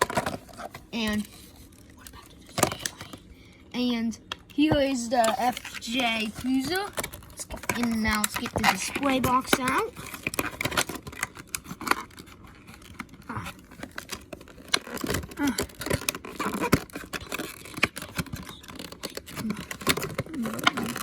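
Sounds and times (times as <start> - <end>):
cardboard packaging scraping: 0.0 - 3.2, 4.6 - 21.0.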